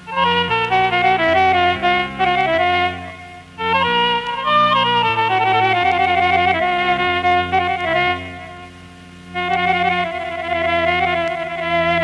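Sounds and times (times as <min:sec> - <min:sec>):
held bass line: 0:00.0 - 0:12.0
lead instrument playing quick runs: 0:00.0 - 0:12.0.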